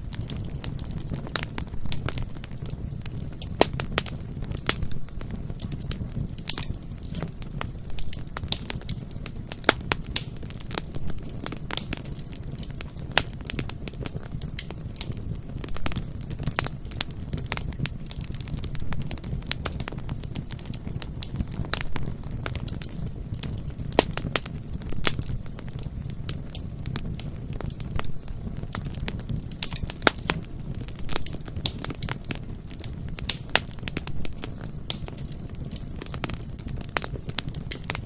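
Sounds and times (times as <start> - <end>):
low rumble of flames: 0.0 - 38.0
wood crackling and popping: 0.0 - 38.0.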